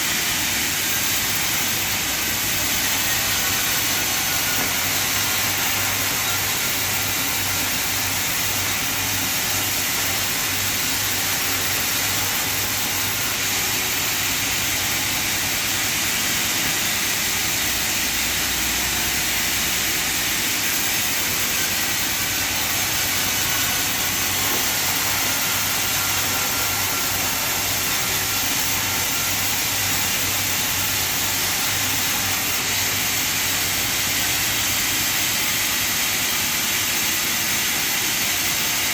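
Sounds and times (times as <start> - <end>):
sawmill machinery hissing din: 0.0 - 38.9.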